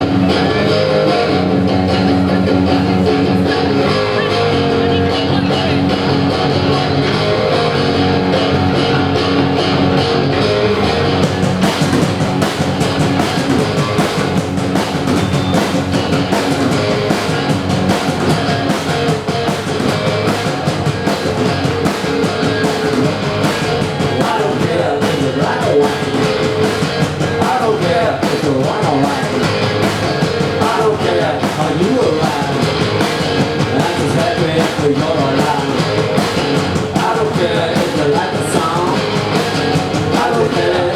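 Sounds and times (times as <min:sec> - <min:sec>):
drum kit: 0:00.0 - 0:40.9
electric guitar: 0:00.0 - 0:40.9
live rock band playing: 0:00.0 - 0:40.9.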